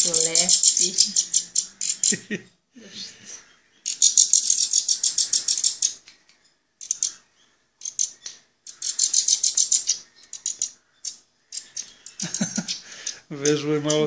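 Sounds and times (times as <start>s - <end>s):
fledglings chirping begging calls: 0.0s - 14.0s.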